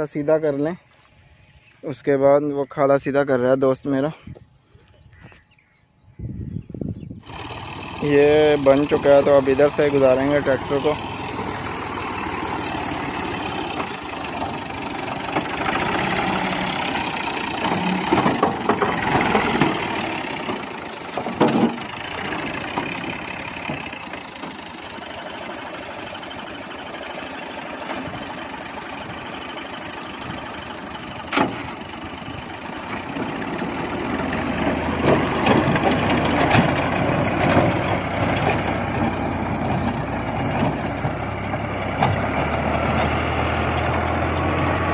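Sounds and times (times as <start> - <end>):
tractor engine running: 7.1 - 44.9
rotavator churning soil: 7.2 - 44.9.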